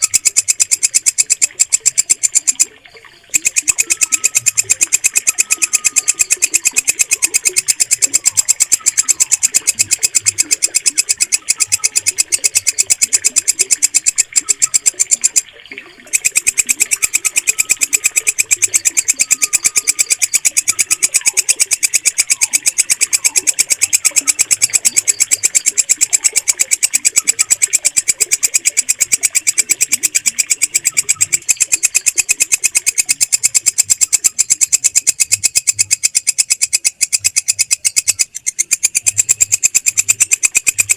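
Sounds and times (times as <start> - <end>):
faint bird chirps: 0.0 - 40.9
katydid shrill ticking pulses: 0.0 - 40.9.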